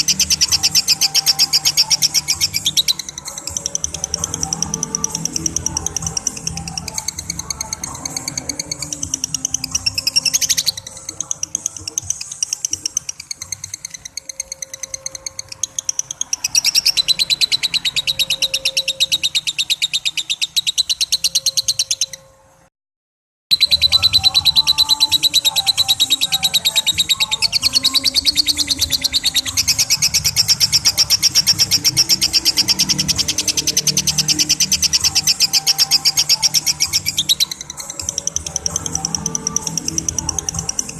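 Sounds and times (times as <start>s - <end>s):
lovebird chattering trill: 0.0s - 22.4s, 23.5s - 40.9s.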